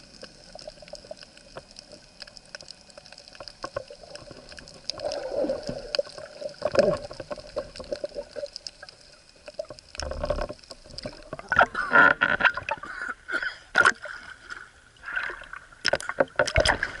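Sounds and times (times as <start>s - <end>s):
water splashing and gurgling: 0.0s - 17.0s.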